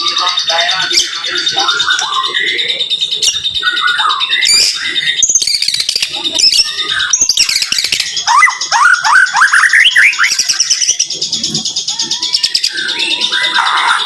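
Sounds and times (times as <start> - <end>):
fast high bird trills: 0.0 - 14.0.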